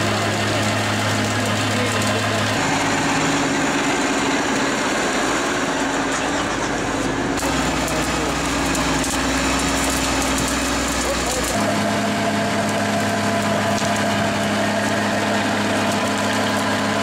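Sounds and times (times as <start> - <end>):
tractor engine and tiller rotor drone: 0.0 - 17.0.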